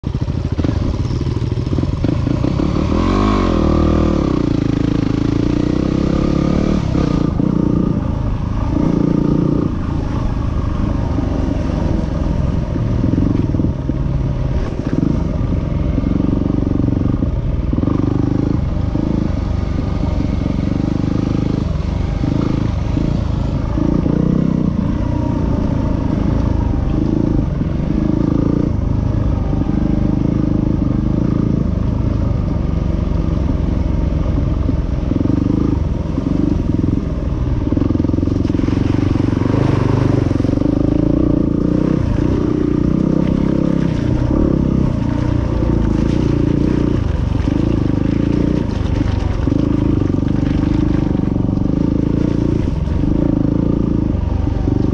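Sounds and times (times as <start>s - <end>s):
vehicle engine revving: 0.0s - 54.9s.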